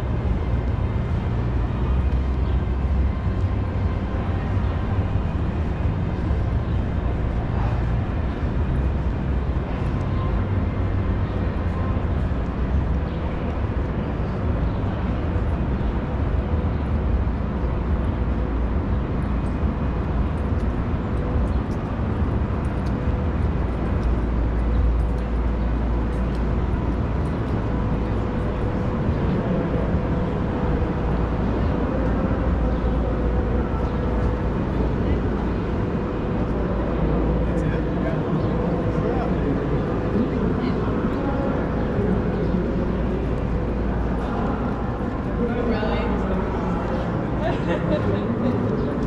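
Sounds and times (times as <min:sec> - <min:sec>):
faint scattered noises: 0:00.0 - 0:49.0
traffic rumble: 0:00.0 - 0:49.0.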